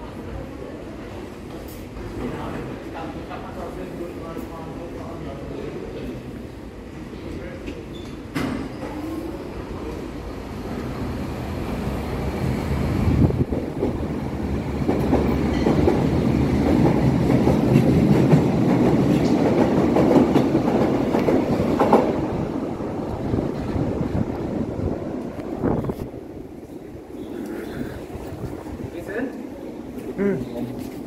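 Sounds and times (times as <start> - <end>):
subway train pulling out: 0.0 - 31.0.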